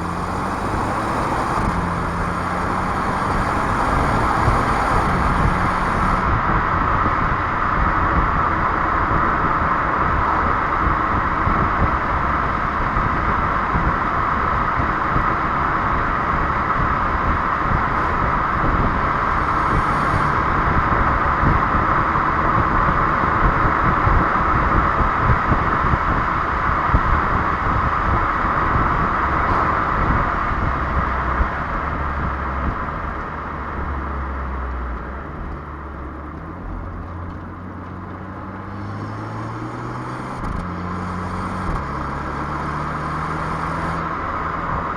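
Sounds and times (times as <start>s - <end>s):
car road and engine noise: 0.0s - 44.9s.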